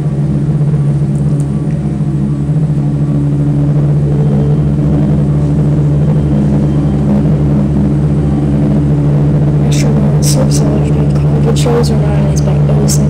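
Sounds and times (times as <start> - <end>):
helicopter rotor and engine hum: 0.0 - 13.0.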